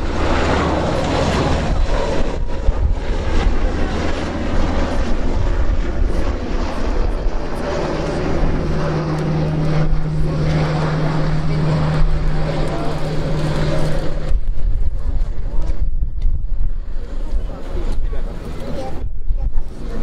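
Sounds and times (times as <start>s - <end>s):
jet engines roaring: 0.0s - 20.0s
steady low hum: 0.0s - 20.0s.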